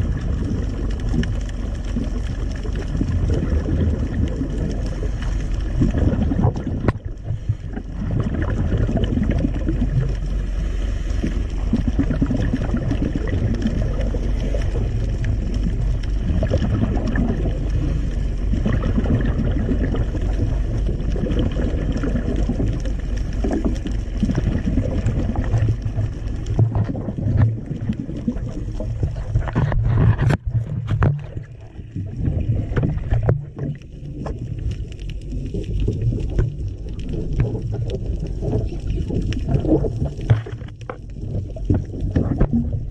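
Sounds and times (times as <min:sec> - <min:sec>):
muffled underwater rumble: 0:00.0 - 0:42.9.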